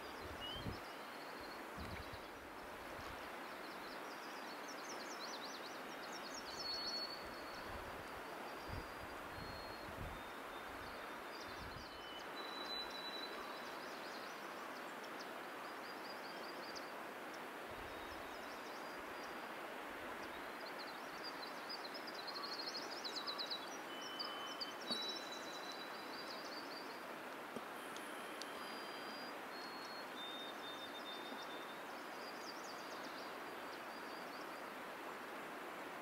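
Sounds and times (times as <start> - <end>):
outdoor background hiss: 0.0 - 36.0.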